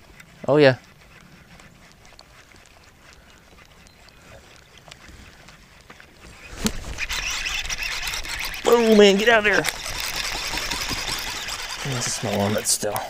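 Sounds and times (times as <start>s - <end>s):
faint scattered ticks: 0.0s - 13.0s
grass rustling against camera: 0.0s - 13.0s.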